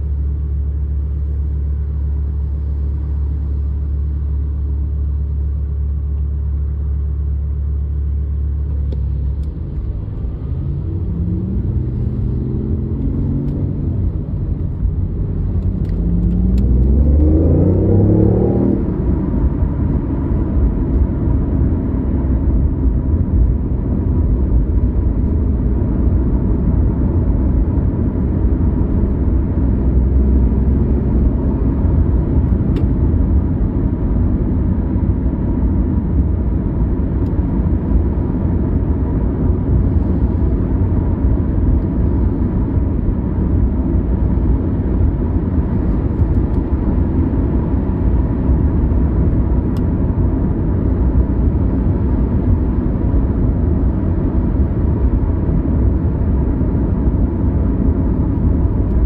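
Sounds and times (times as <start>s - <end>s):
car cruising low rumble: 0.0s - 59.0s.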